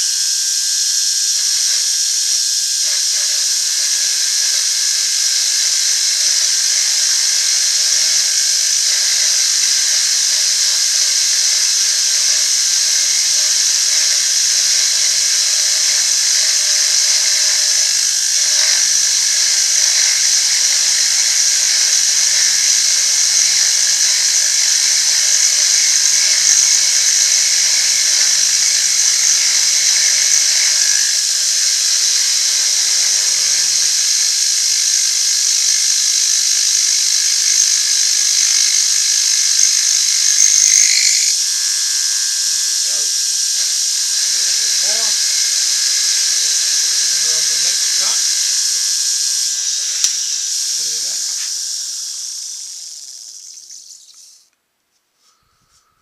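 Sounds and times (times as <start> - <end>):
grinder high-pitched grinding: 2.5 - 54.4.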